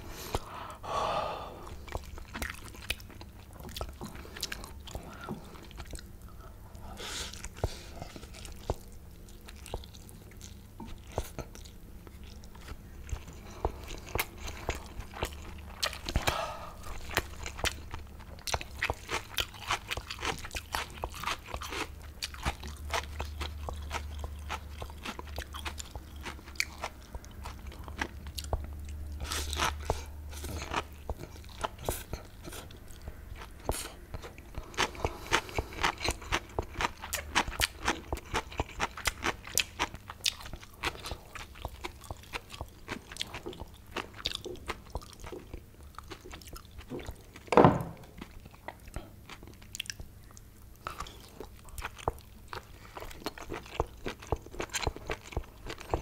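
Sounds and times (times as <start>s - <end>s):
wet chewing and mouth clicks: 1.7s - 6.2s, 7.3s - 47.5s, 48.2s - 56.0s.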